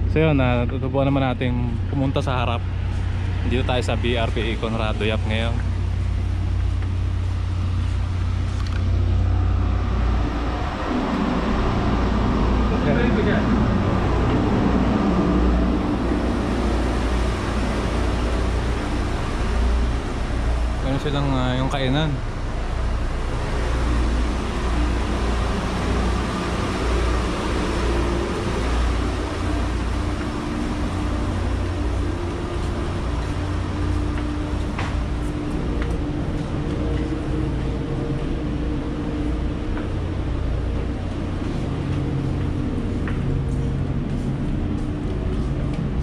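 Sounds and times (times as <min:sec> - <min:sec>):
machinery drone: 0:00.0 - 0:46.0
ventilation air rush: 0:00.0 - 0:46.0.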